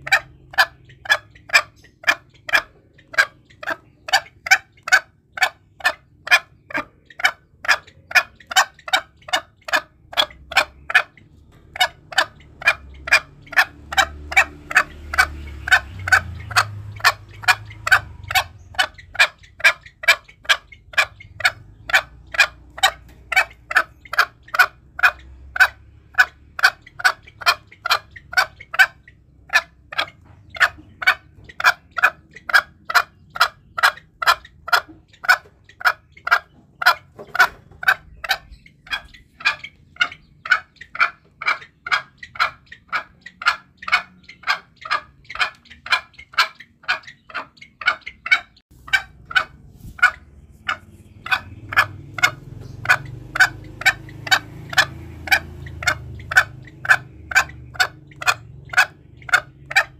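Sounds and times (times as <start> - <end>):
junglefowl calling: 0.0 - 59.9.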